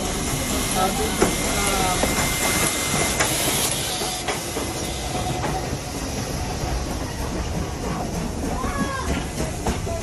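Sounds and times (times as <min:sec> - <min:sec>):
steam train rumble and hiss: 0:00.0 - 0:10.0.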